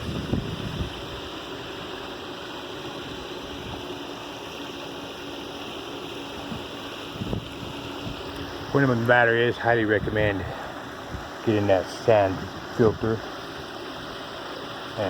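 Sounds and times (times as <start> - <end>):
faint steady hum: 0.0 - 15.0
pool filter pump running: 0.0 - 15.0
water rushing: 0.0 - 15.0.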